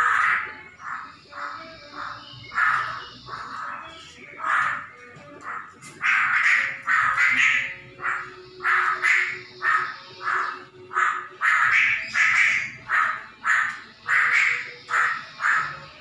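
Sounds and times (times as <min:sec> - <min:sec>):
bird giving harsh rasping calls: 0:00.0 - 0:16.0.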